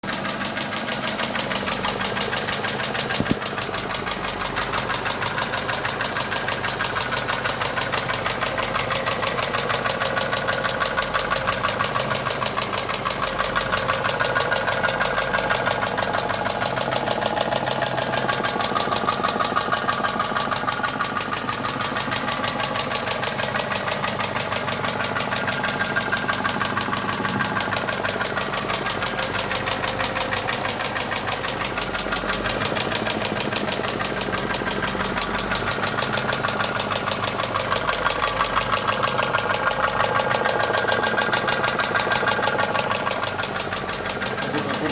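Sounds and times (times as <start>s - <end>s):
petrol engine knocking: 0.0s - 44.9s.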